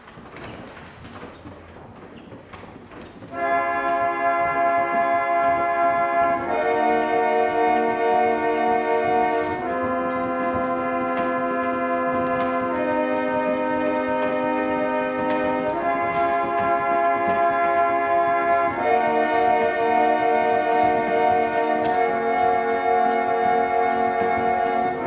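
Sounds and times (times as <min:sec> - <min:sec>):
reed organ chords: 0:03.3 - 0:25.0.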